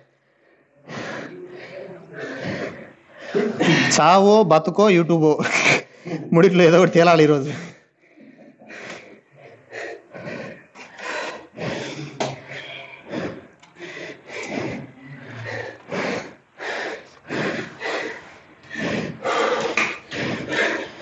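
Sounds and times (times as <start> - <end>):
man panting hard: 0.0 - 4.3, 7.4 - 21.0.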